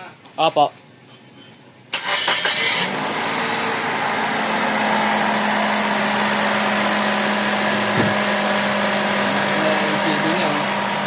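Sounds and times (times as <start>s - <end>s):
car engine idling: 2.0s - 11.0s.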